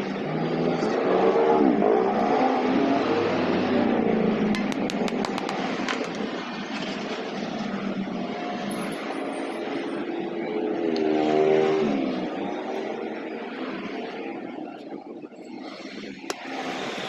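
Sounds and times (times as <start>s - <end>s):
traffic passing: 0.0s - 17.0s.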